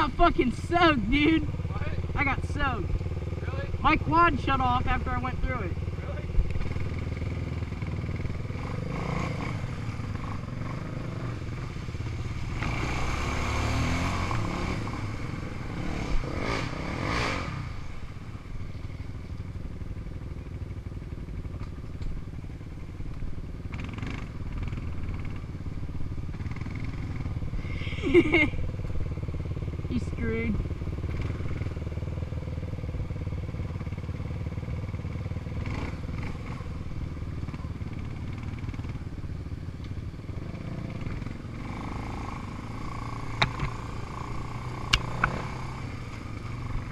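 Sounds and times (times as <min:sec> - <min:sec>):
off-road vehicle engine running: 0:00.0 - 0:46.9.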